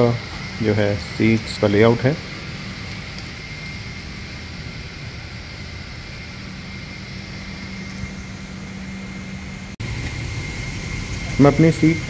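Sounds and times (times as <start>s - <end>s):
airliner cabin air rush: 0.0s - 12.0s
faint high whine: 0.0s - 12.0s
low hum: 0.0s - 12.0s.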